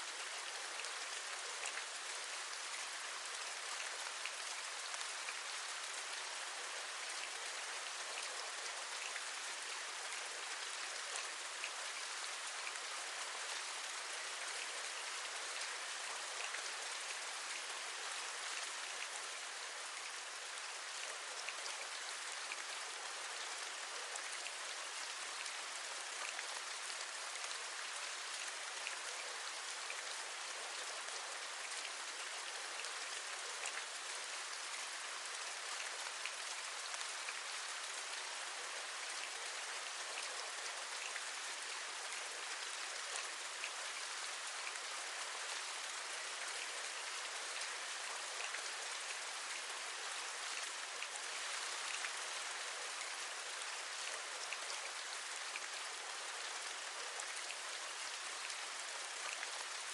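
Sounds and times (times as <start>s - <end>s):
steady rain with raindrop taps: 0.0s - 59.9s.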